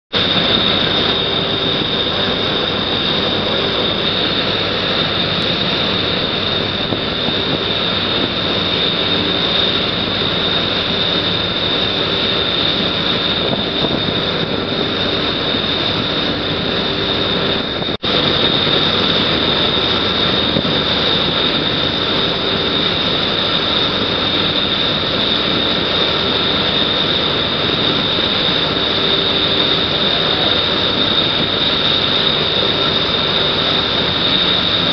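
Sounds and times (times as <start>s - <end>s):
diesel machinery drone: 0.1s - 34.9s
high steady whine: 0.1s - 34.9s.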